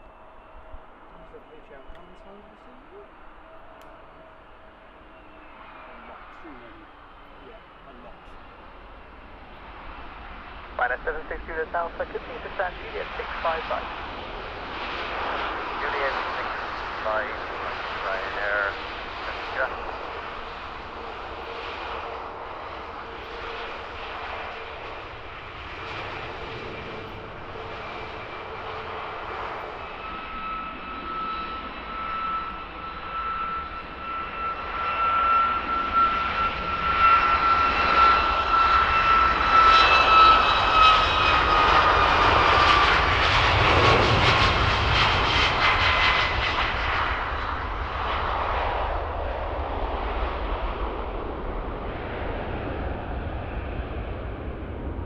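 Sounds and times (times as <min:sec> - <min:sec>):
jet airliner passing: 0:00.0 - 0:55.0.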